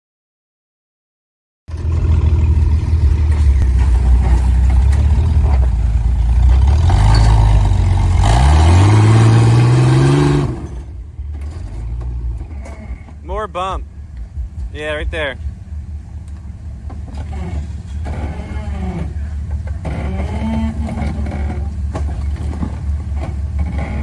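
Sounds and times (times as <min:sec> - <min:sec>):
off-road vehicle engine revving: 0:01.7 - 0:24.0.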